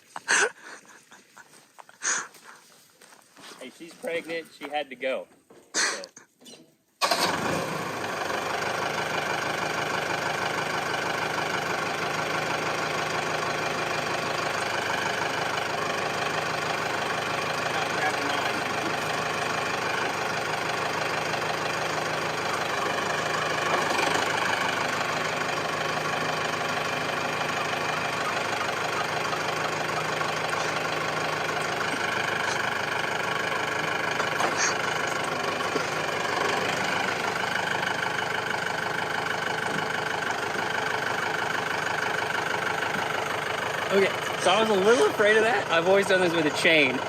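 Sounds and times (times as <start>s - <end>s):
tractor engine idling: 0.0s - 5.2s, 7.0s - 47.0s.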